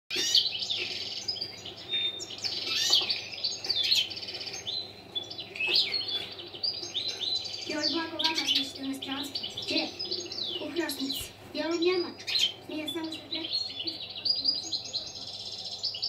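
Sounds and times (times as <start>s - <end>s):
goldfinch twittering song: 0.1s - 16.0s.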